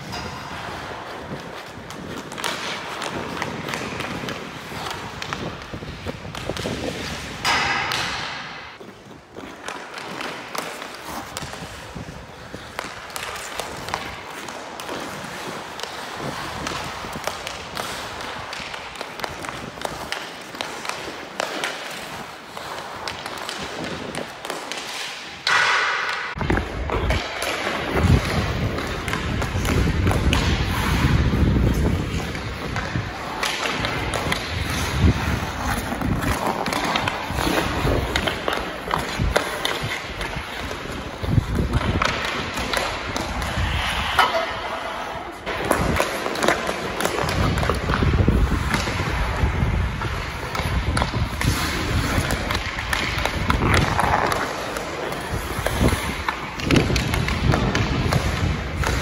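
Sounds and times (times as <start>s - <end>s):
hockey stick knocking puck: 0.0s - 59.0s
skate blades scraping ice: 0.0s - 59.0s.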